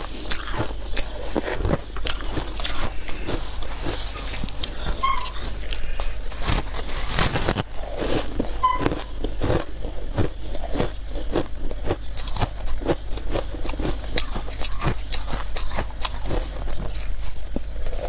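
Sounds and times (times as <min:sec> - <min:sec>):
chewing crunchy frost: 0:00.0 - 0:18.0.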